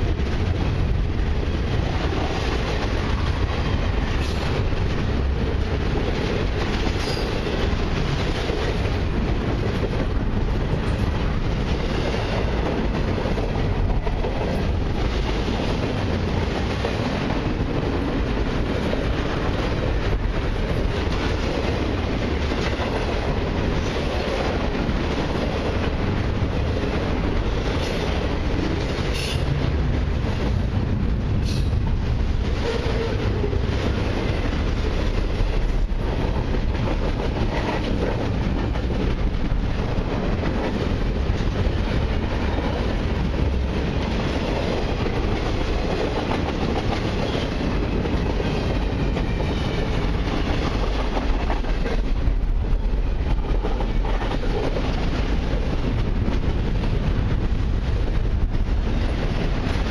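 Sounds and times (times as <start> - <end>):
freight train rolling past: 0.0 - 59.9
wheels clicking over rail joints: 0.0 - 59.9.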